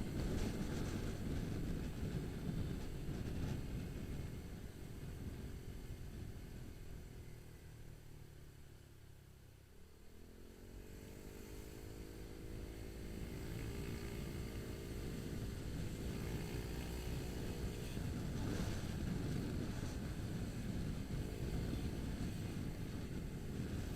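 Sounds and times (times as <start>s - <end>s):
motorcycle engine accelerating: 0.0s - 23.9s
wind and road noise: 0.0s - 23.9s.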